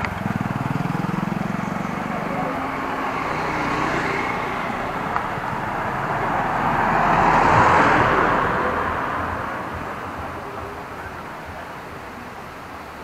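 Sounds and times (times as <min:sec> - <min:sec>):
car and scooter passing: 0:00.0 - 0:13.0.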